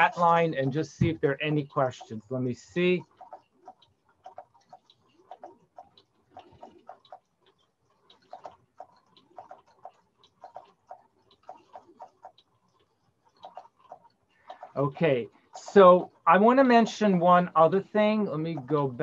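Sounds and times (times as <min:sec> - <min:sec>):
mechanical clicking: 0:00.0 - 0:19.0.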